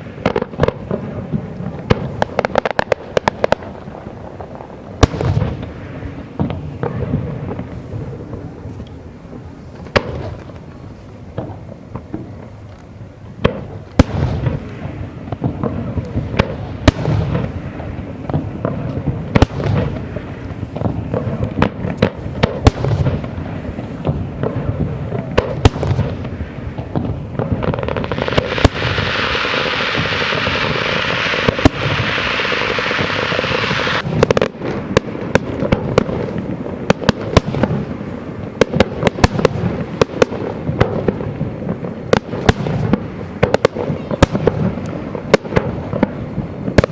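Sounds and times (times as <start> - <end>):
fireworks bangs and cracks: 0.0 - 46.9
fireworks hissing: 0.0 - 46.9.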